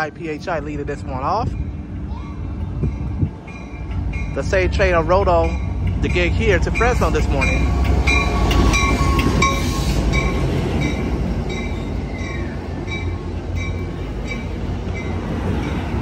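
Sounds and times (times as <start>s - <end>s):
diesel locomotive engine rumble: 0.0s - 16.0s
train coaches rolling by: 0.0s - 16.0s
train bell ringing: 2.6s - 16.0s.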